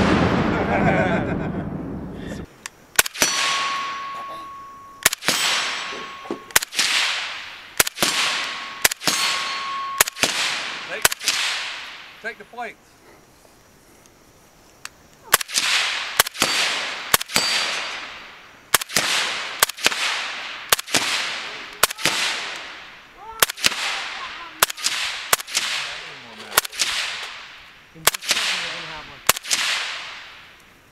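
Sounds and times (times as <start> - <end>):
hiss after gunshots: 0.0 - 3.6, 6.5 - 9.4, 10.0 - 30.9.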